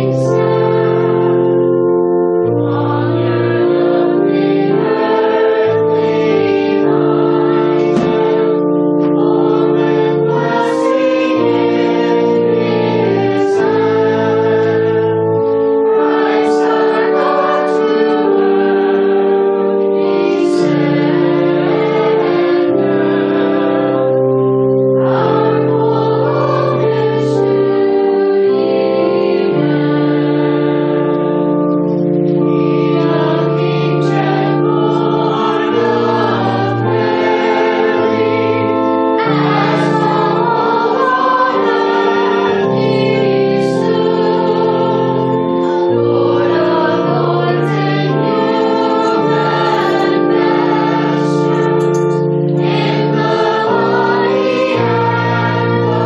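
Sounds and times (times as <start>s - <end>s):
voices singing a hymn: 0.0s - 56.0s.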